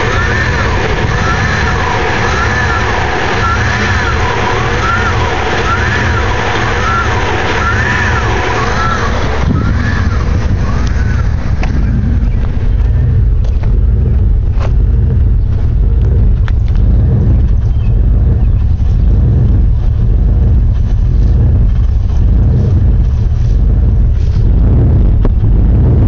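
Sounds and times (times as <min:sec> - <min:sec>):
car engine idling roughly: 0:00.0 - 0:26.0
sharp engine ticks: 0:00.0 - 0:26.0.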